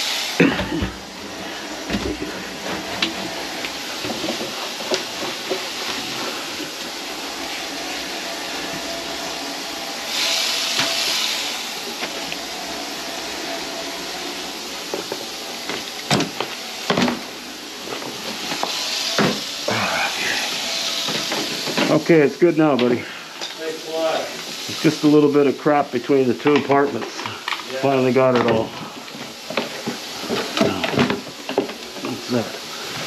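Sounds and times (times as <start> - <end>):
kitchen faucet running: 0.0 - 33.0.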